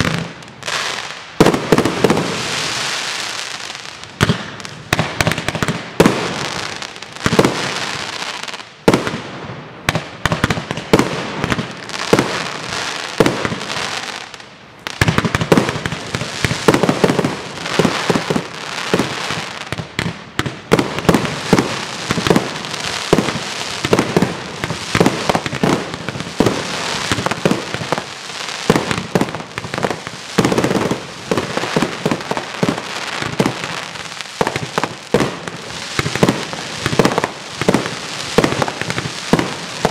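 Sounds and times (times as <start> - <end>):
firework crackling: 0.0 - 39.9.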